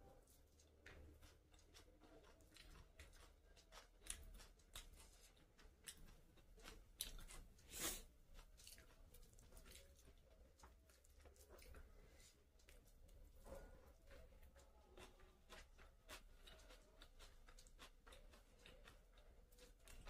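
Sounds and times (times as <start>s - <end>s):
faint chewing: 0.0s - 20.0s
fingers crackling food on a plate: 0.0s - 20.0s.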